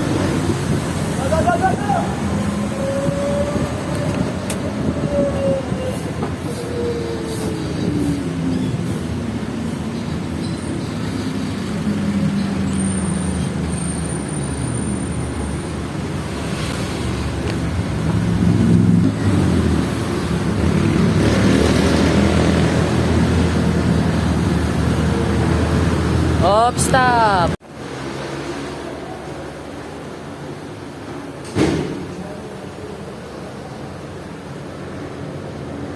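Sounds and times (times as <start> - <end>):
road traffic: 0.0 - 35.9.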